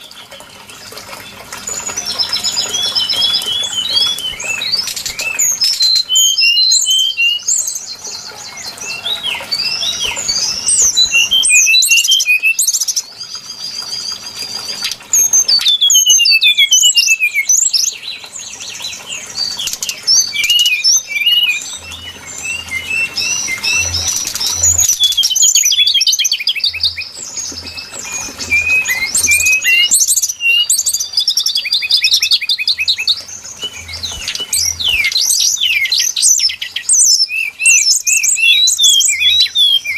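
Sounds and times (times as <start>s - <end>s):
flycatcher song: 0.0s - 39.9s.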